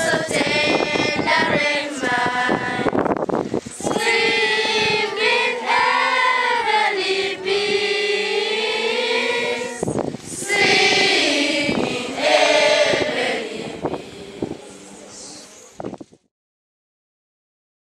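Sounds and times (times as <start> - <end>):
children singing together: 0.0 - 3.1, 3.7 - 15.2.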